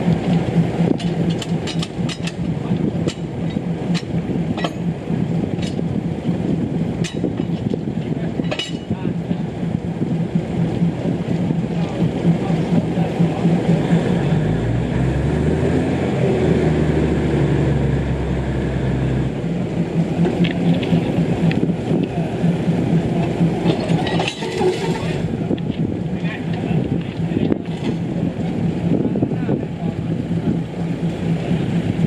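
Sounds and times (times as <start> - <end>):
diesel railcar engine drone: 0.0 - 32.0.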